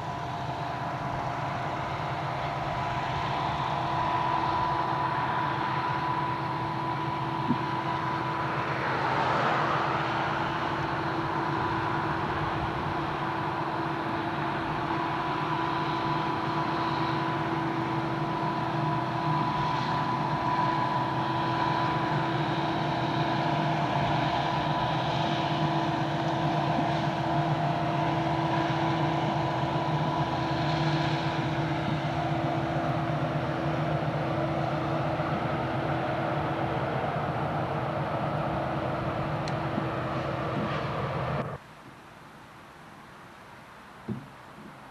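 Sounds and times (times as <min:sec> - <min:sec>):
freight train rumbling past: 0:00.0 - 0:41.6.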